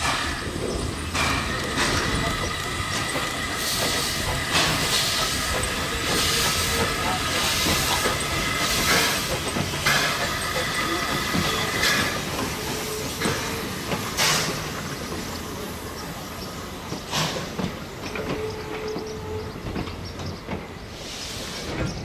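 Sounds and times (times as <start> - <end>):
train rumble: 0.0 - 22.0
train wheels clicking over rail joints: 0.0 - 22.0.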